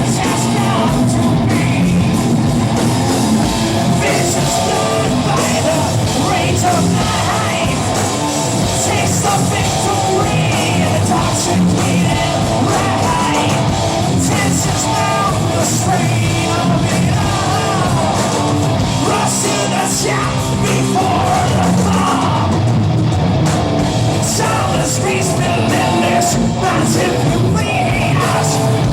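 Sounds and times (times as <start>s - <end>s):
singer shouting and singing: 0.0s - 22.8s, 24.0s - 28.9s
heavy metal band playing: 0.0s - 28.9s.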